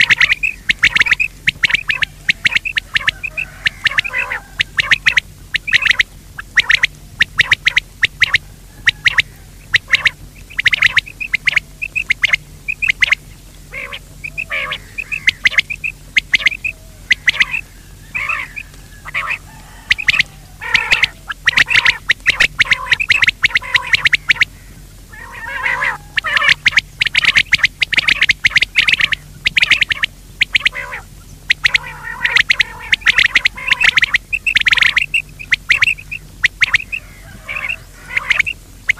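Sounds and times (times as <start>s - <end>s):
quail calling: 0.0s - 38.9s
steady low hum: 0.0s - 38.9s.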